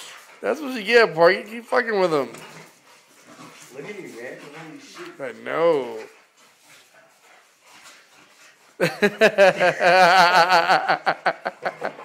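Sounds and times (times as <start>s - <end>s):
dog claws scuffling on tile: 0.0s - 9.7s.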